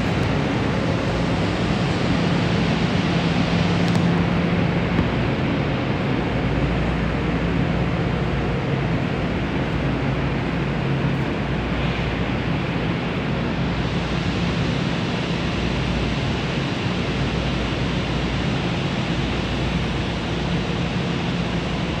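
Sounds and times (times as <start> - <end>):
train ventilation rushing hiss: 0.0 - 22.0.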